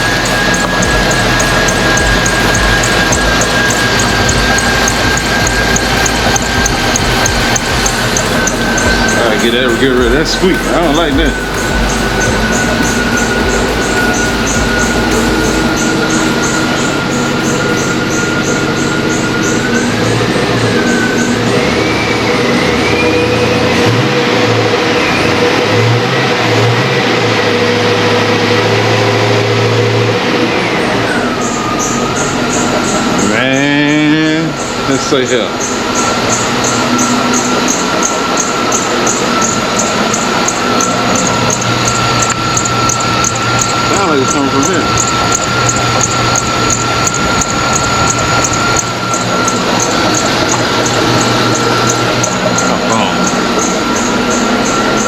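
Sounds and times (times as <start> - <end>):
belt drive whine: 0.0 - 55.0
truck engine running: 0.0 - 55.0.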